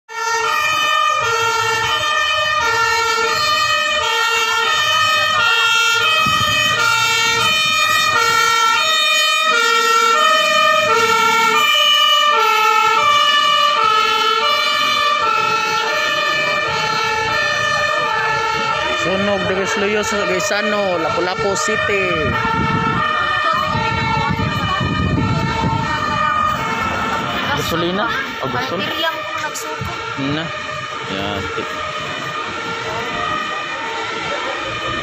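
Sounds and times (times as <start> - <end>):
fire truck two-tone siren: 0.1 - 35.0.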